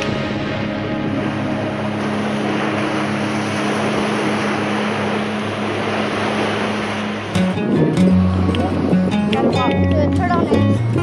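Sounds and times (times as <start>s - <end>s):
motorboat engine humming: 0.0s - 11.0s
rush of wind and water: 0.0s - 11.0s.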